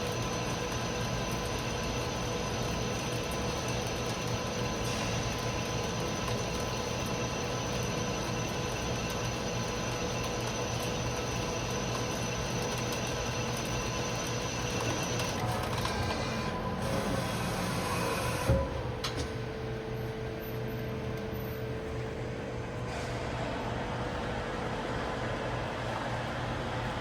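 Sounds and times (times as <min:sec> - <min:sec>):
lathe running with whining tones: 0:00.0 - 0:22.7
high machine whine: 0:00.0 - 0:27.0.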